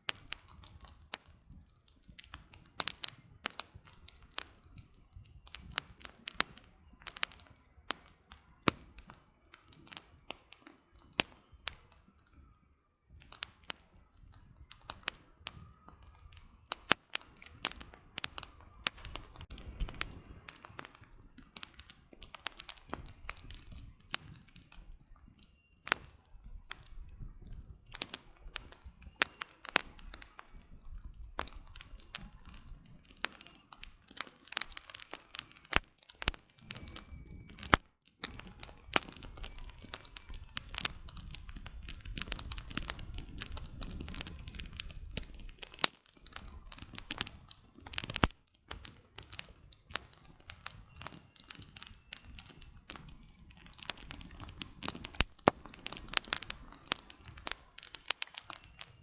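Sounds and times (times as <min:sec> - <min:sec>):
campfire crackling and popping: 0:00.0 - 0:59.0
low fire rumble: 0:00.0 - 0:59.0
wood snapping in fire: 0:00.0 - 0:59.0.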